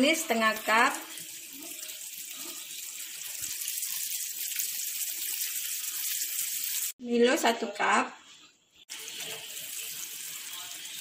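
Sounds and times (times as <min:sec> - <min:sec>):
butter sizzling in a pan: 0:00.0 - 0:07.0, 0:08.2 - 0:11.0.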